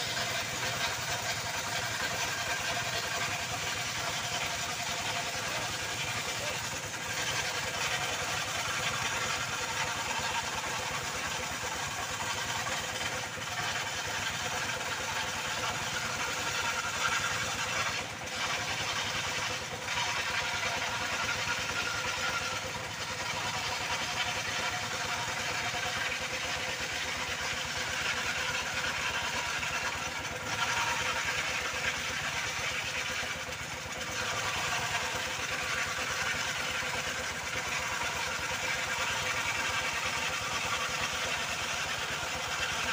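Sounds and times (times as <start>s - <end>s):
circular saw cutting wood: 0.0s - 42.9s.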